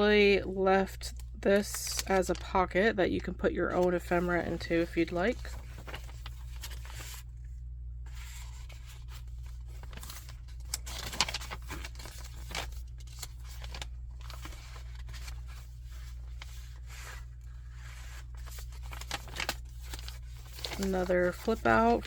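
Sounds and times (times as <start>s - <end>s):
paper pages rustling: 3.7s - 22.0s.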